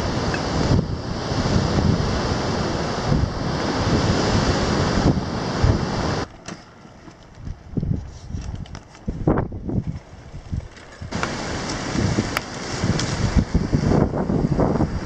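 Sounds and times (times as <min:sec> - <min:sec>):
wind on microphone: 0:00.0 - 0:06.3, 0:07.1 - 0:15.0.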